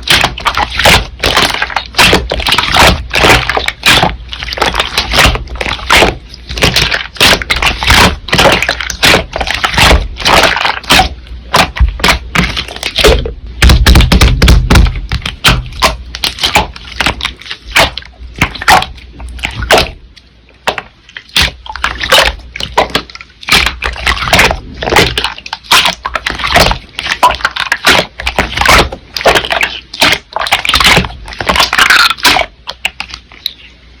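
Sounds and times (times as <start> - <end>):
slime crackling and popping: 0.0 - 33.5.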